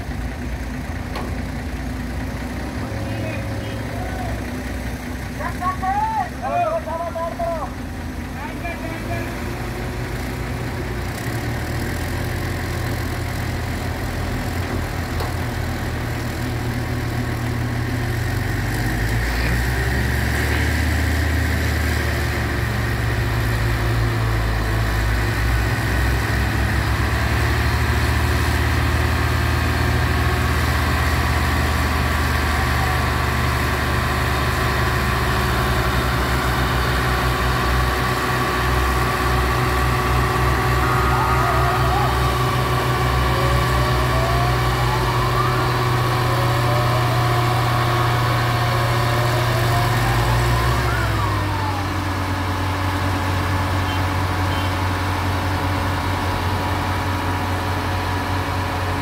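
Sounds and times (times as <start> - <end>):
crane diesel engines under load: 0.0 - 59.0.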